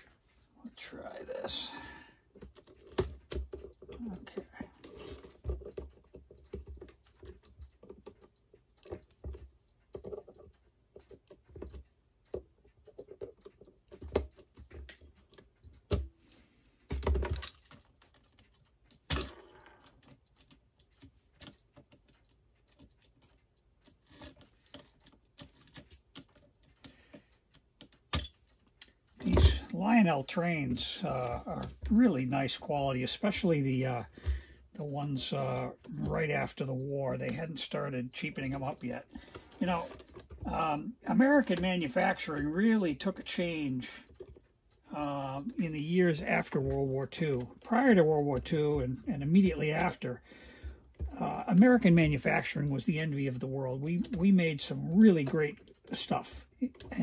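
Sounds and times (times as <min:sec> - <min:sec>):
metal parts clicking and clinking: 0:02.4 - 0:50.0.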